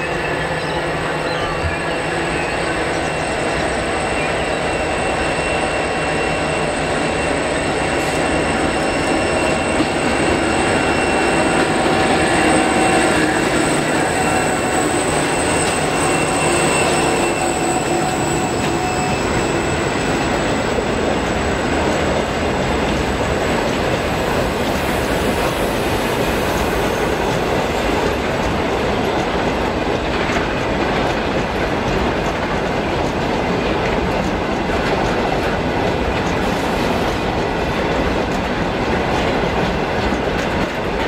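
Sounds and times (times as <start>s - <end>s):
diesel locomotives passing: 0.0s - 41.0s
wagons rumbling on rails: 0.0s - 41.0s.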